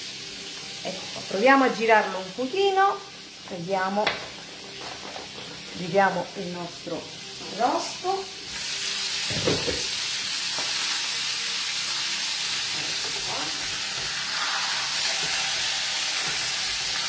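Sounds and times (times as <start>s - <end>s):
meat roast sizzling in a pan: 0.0s - 17.0s.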